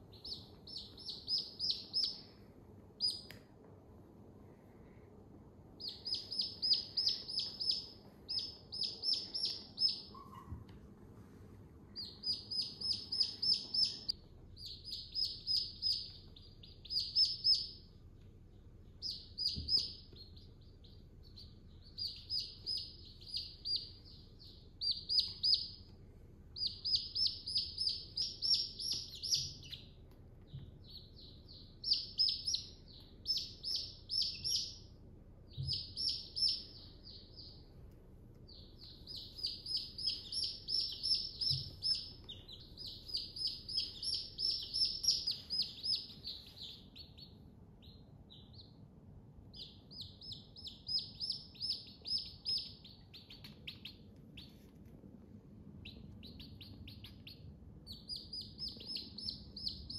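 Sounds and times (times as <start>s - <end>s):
chicks peeping: 0.0s - 2.4s, 3.0s - 3.4s, 5.8s - 10.8s, 11.9s - 25.9s, 26.6s - 34.9s, 35.5s - 48.8s, 49.5s - 54.9s, 55.7s - 59.9s.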